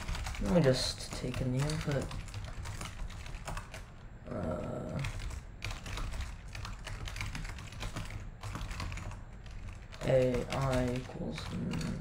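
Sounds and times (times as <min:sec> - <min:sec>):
computer keyboard typing: 0:00.0 - 0:12.0.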